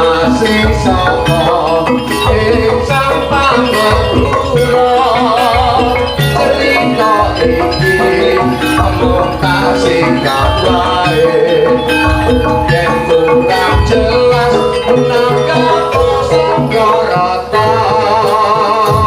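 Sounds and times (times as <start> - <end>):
drum strokes: 0.0 - 19.0
gamelan music: 0.0 - 19.0
struck metallophones: 0.0 - 19.0.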